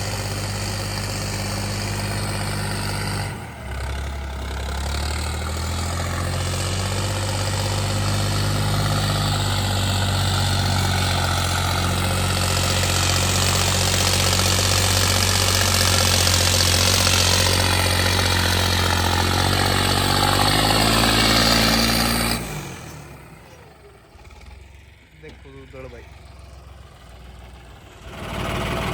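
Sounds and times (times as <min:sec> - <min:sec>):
tractor diesel engine under load: 0:00.0 - 0:28.9.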